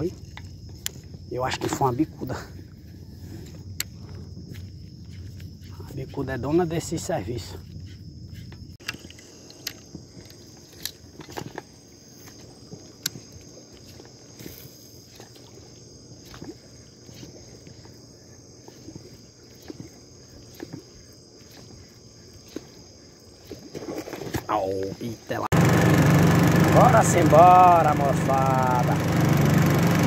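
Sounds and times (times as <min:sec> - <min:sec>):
night insects chirring: 0:00.0 - 0:29.7.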